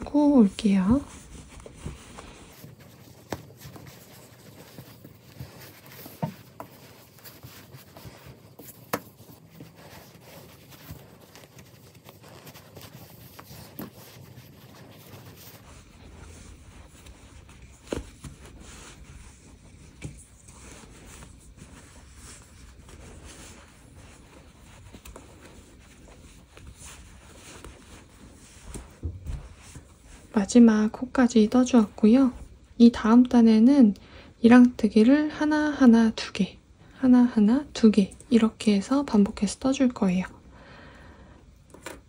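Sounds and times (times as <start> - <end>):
yarn rustling through stitches: 0.0 - 33.7.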